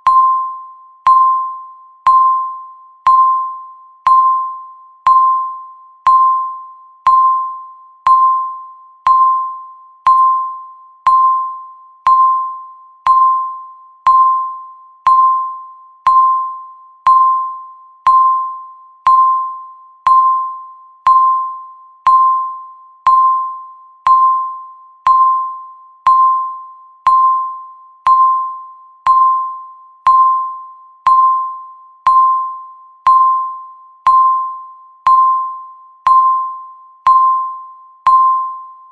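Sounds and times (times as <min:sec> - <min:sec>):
timer beeps: 0:00.0 - 0:38.9.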